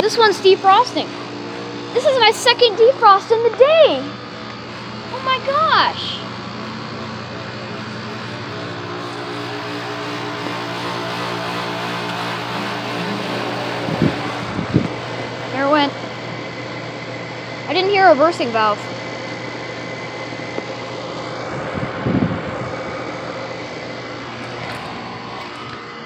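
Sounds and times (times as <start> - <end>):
air conditioner compressor humming: 0.0 - 26.0.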